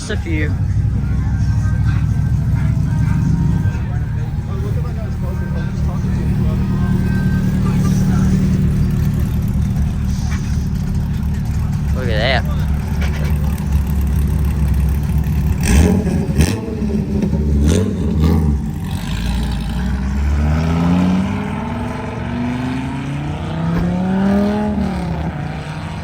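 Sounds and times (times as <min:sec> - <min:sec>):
car engine revving: 0:00.0 - 0:26.0
car engines droning: 0:00.0 - 0:26.0.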